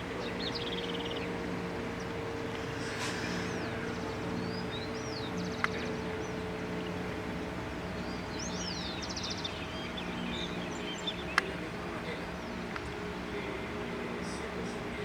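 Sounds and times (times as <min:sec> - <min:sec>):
birds chirping and twittering: 0:00.0 - 0:15.0
low outdoor background hum: 0:00.0 - 0:15.0.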